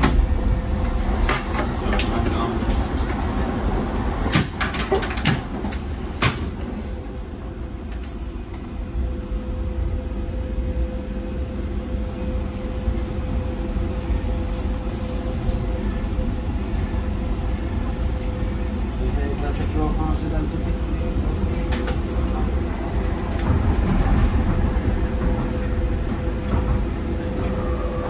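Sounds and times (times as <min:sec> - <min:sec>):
train clunks: 0:00.0 - 0:08.9, 0:14.0 - 0:28.0
train rumble on track: 0:00.0 - 0:28.0.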